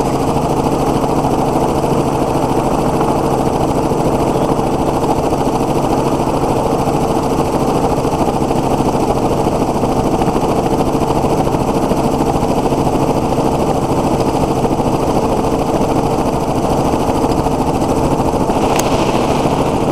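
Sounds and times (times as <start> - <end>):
helicopter engine and rotor drone: 0.0 - 19.9.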